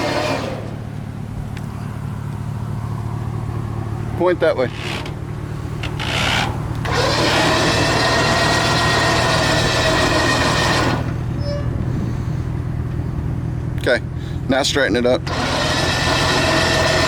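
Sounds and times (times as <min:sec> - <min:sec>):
winch motor whining: 0:00.0 - 0:13.5, 0:15.0 - 0:17.0
vehicle engine idling: 0:00.0 - 0:17.0.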